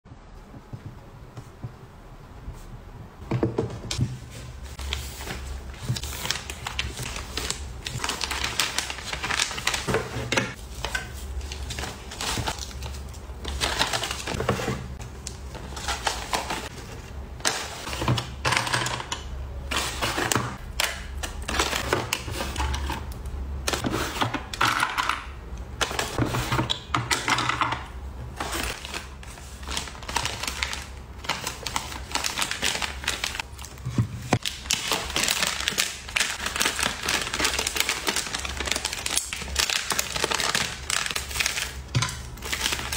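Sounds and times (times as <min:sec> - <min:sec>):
plastic and paper rustling: 0:03.4 - 0:24.6, 0:25.8 - 0:42.9.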